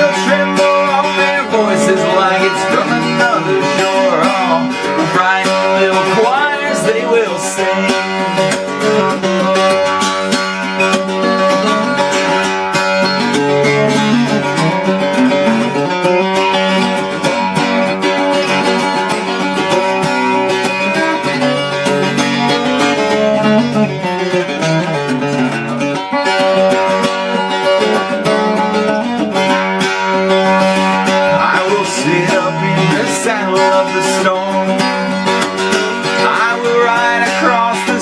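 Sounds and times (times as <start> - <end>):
mandolin picking and strumming: 0.0 - 38.0.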